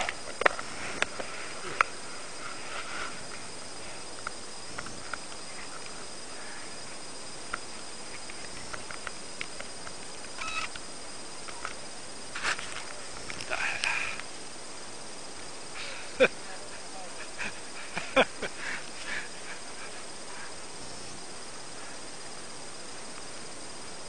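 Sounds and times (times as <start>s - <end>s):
microphone hiss: 0.0s - 24.0s.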